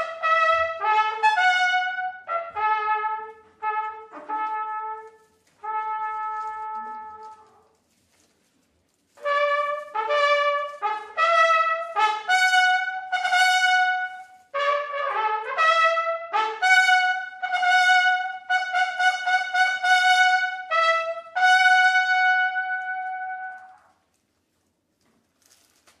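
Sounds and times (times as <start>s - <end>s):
second brass part: 0.0s - 7.7s, 9.2s - 24.0s
trumpets playing short notes: 0.0s - 7.8s, 9.2s - 24.0s.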